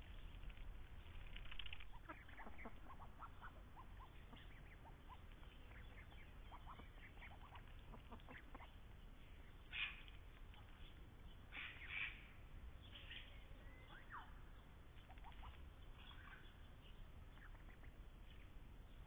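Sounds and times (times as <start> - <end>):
thin bird chirps: 0.1 - 19.0.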